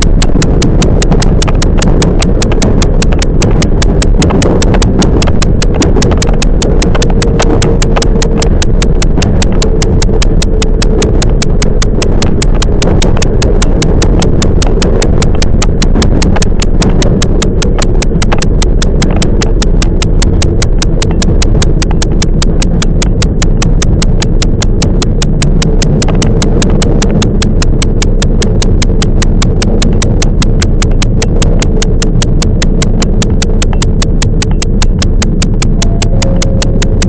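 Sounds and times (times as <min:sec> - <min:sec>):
train low rumble: 0:00.0 - 0:37.0
train wheels clicking: 0:00.0 - 0:37.0.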